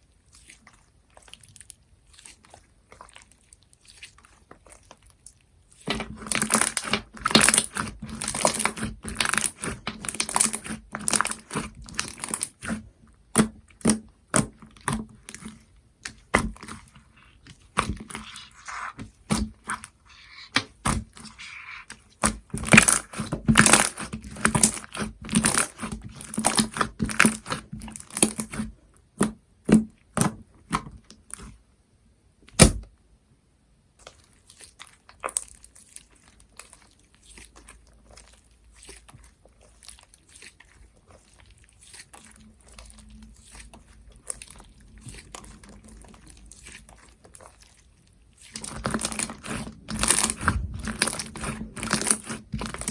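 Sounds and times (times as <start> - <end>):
hands squishing slime: 0.0 - 31.6, 34.0 - 52.9.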